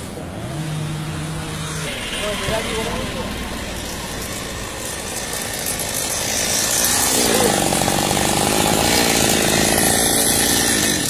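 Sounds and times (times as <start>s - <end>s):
mini motorbike engine revving: 0.0s - 11.0s.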